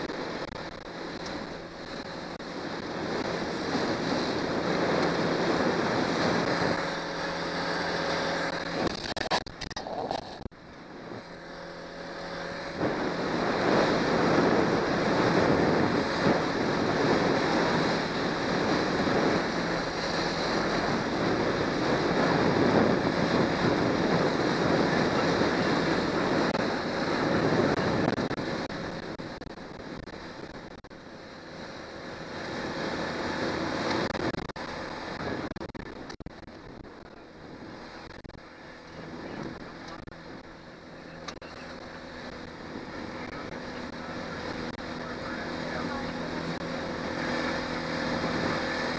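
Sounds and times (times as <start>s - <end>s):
outboard motor humming: 0.0s - 48.9s
water rushing against hull: 0.0s - 48.9s
wind on microphone: 0.0s - 48.9s.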